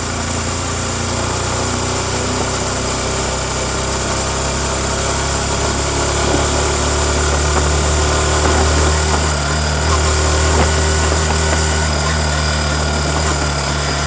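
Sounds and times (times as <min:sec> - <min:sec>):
motorcycle engine running: 0:00.0 - 0:14.0
road noise: 0:01.6 - 0:14.0.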